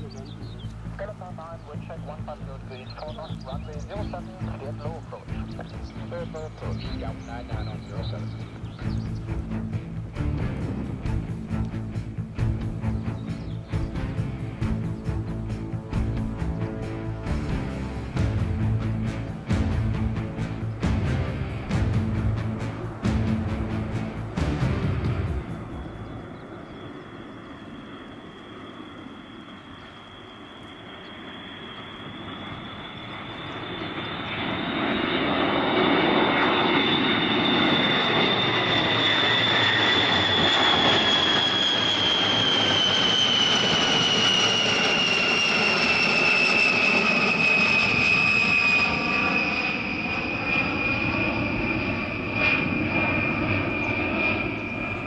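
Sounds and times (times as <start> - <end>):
high jet engine whine: 0.0 - 55.0
jet bomber flying overhead: 0.0 - 55.0.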